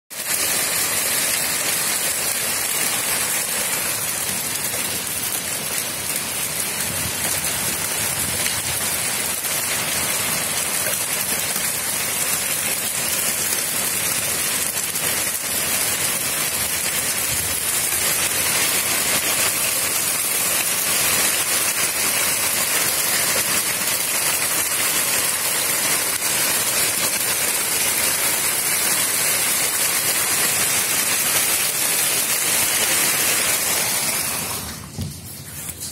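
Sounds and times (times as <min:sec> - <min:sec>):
heavy hail falling: 0:00.1 - 0:35.9.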